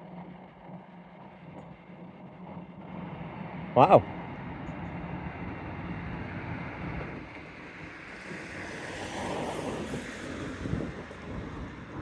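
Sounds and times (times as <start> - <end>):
steady rushing rumble: 0.0 - 12.0
wind buffeting microphone: 0.0 - 12.0.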